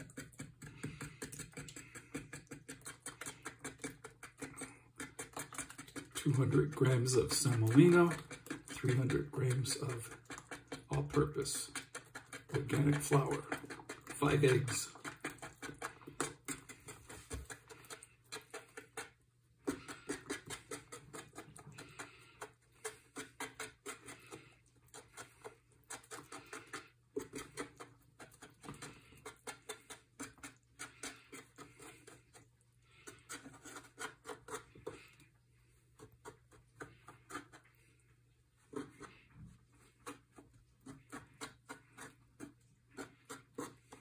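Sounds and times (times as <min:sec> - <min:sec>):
fork tapping while beating eggs: 0:00.0 - 0:35.2, 0:40.0 - 0:44.0.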